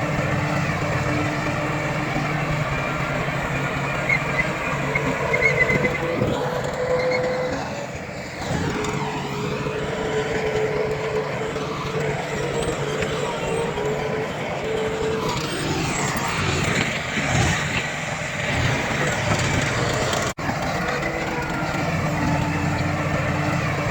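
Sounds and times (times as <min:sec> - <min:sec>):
heavy machinery engine rumble: 0:00.0 - 0:23.9.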